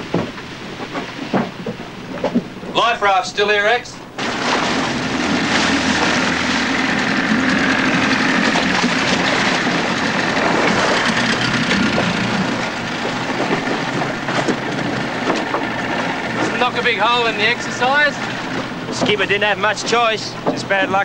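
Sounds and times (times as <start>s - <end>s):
outboard motor running: 0.0s - 21.0s
water splashing against hull: 3.7s - 21.0s.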